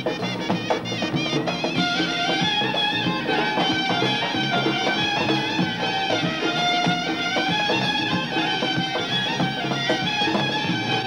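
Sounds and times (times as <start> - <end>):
hand drum strokes: 0.0 - 11.0
strings: 0.0 - 11.0
wooden wind instrument melody: 0.0 - 11.0.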